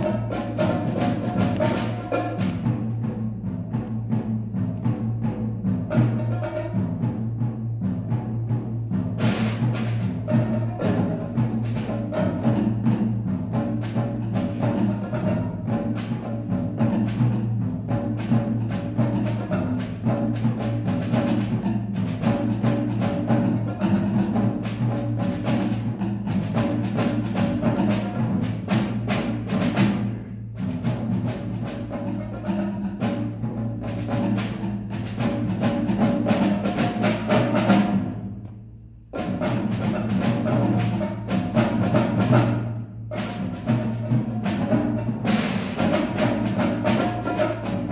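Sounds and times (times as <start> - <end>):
percussion ensemble drumming: 0.0 - 47.9.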